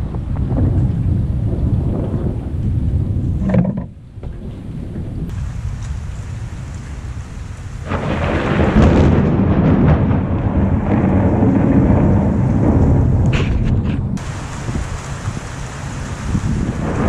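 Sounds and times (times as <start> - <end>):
steady rain: 0.0 - 3.4, 4.0 - 17.0
thunder clap and rumble: 0.0 - 17.0.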